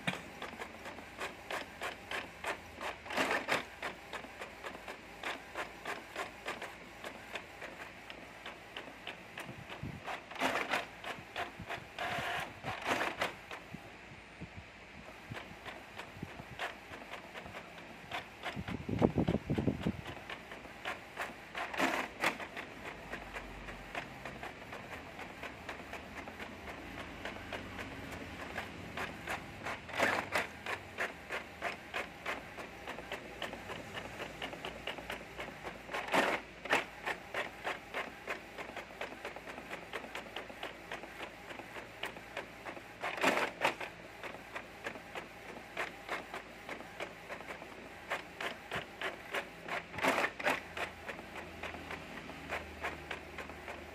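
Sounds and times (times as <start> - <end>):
printer clatter: 0.0 - 13.8, 15.0 - 53.9
printer clicking and whirring: 0.0 - 14.0, 14.8 - 53.9.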